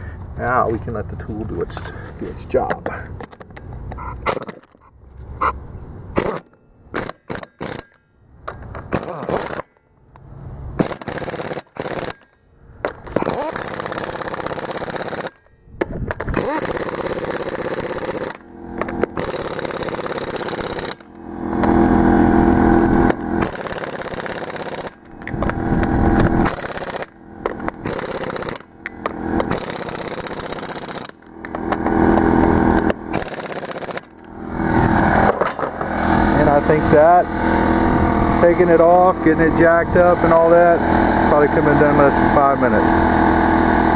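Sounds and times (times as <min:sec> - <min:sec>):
pneumatic impact wrench bursts: 0:02.8 - 0:04.8, 0:05.4 - 0:09.9, 0:10.7 - 0:43.9.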